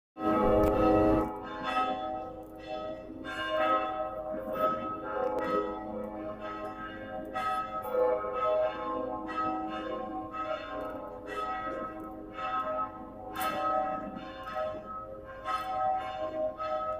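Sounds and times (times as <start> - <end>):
church bells ringing: 0.2 - 16.9.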